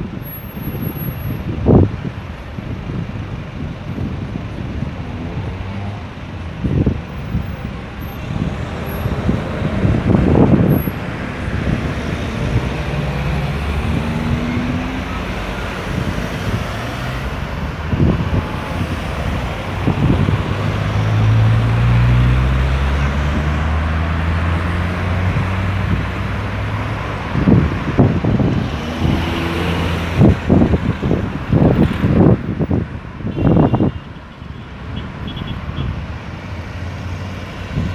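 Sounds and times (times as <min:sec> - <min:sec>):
heavy vehicle engine hum: 0:00.0 - 0:37.9
road traffic passing: 0:00.0 - 0:37.9.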